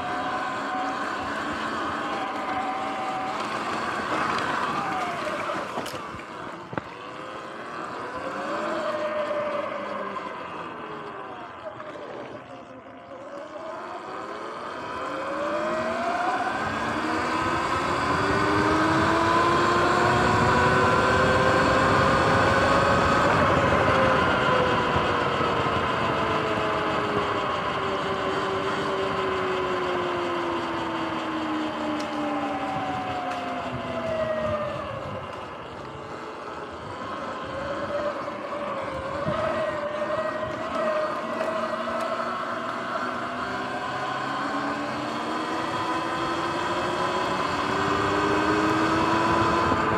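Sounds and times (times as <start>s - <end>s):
electric dirt bike motor whining: 0.0s - 49.9s.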